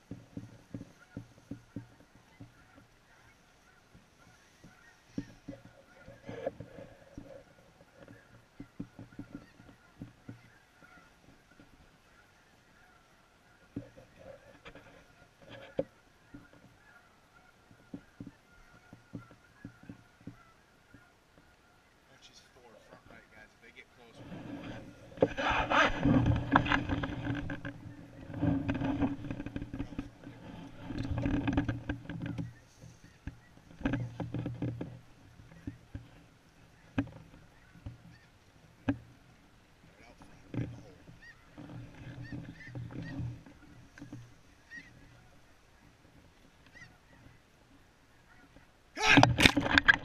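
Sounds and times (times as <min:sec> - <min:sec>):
dry grass rustling: 0:00.0 - 0:50.0
geese honking: 0:00.0 - 0:50.0.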